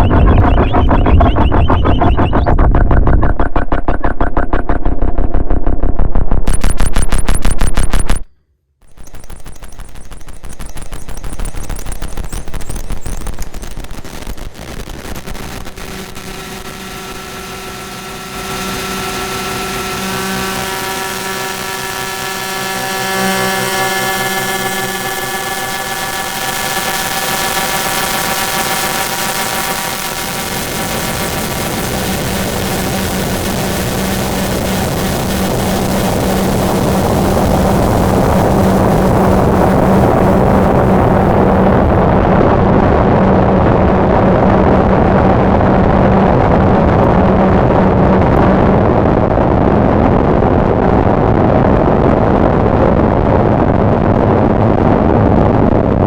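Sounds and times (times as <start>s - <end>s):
guitar pedal electronic drone: 0.0s - 56.0s
noise wash with low hum: 0.0s - 56.0s.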